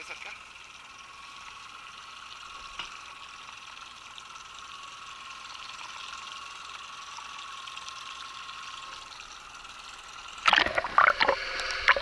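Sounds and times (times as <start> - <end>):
fishing reel whining and ticking: 0.0 - 10.5.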